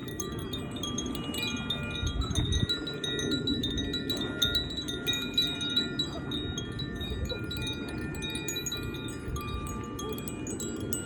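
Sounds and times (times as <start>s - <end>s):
wind chime tinkling: 0.0s - 11.0s.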